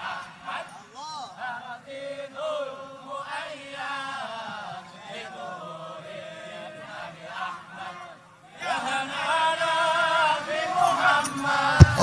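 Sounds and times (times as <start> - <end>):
group of voices chanting: 0.0 - 12.0.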